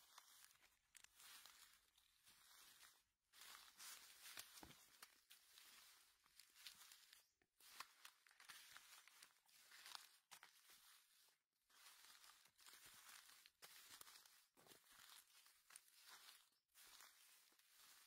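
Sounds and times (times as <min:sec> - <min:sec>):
mushrooms rustling in wicker basket: 0:00.1 - 0:18.0.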